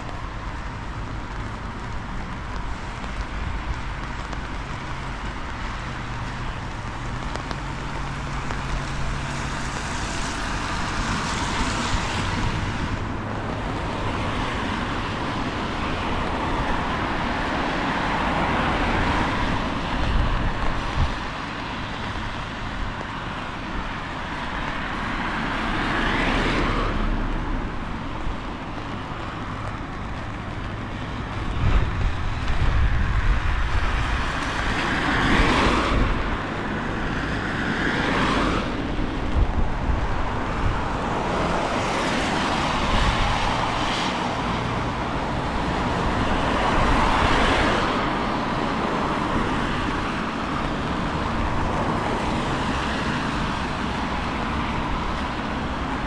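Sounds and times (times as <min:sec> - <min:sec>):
cars passing on wet road: 0:00.0 - 0:56.0
wind on microphone: 0:00.0 - 0:56.0.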